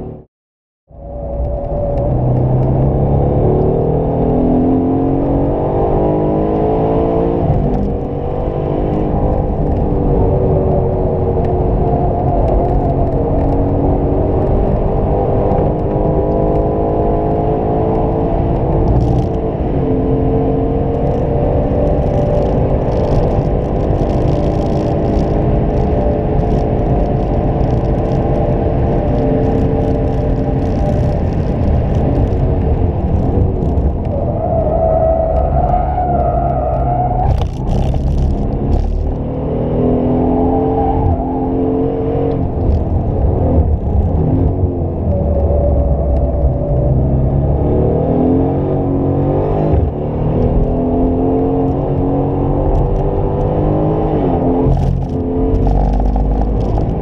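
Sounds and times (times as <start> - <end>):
car engine accelerating hard: 1.5 - 57.0.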